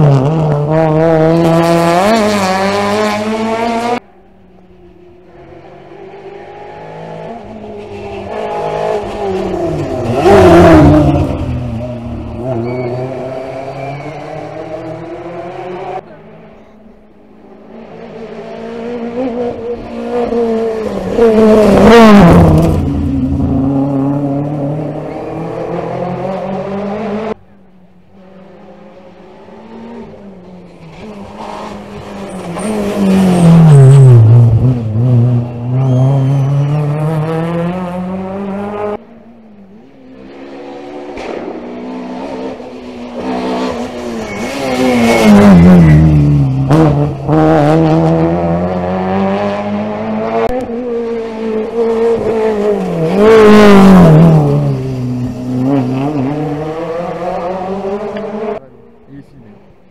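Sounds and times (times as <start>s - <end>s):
rally cars passing at full speed: 0.0s - 59.9s.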